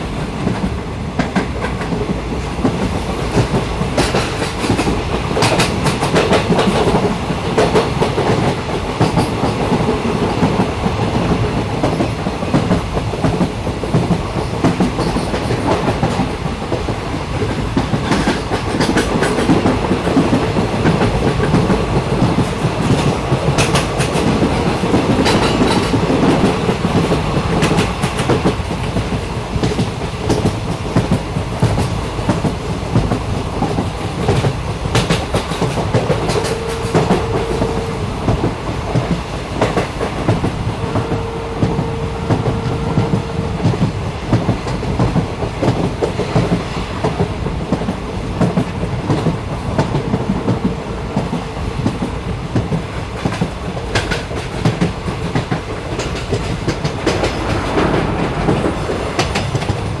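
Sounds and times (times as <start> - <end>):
train rumbling on track: 0.0 - 60.0
wheels clacking over rail joints: 2.6 - 60.0.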